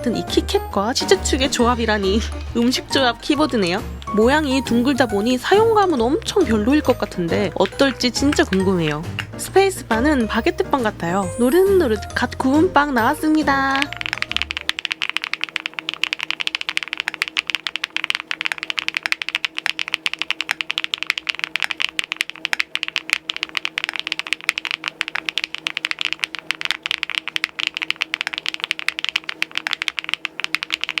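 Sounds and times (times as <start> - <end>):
mechanical keyboard typing: 0.0 - 11.2, 13.2 - 31.0.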